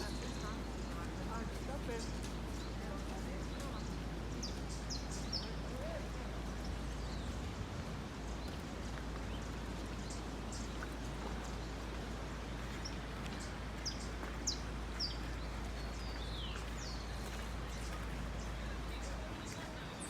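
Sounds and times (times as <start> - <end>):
steady outdoor noise: 0.0 - 20.0.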